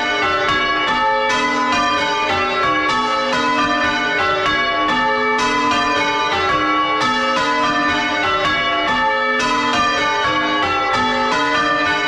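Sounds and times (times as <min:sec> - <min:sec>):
church bells ringing in changes: 0:00.0 - 0:12.0.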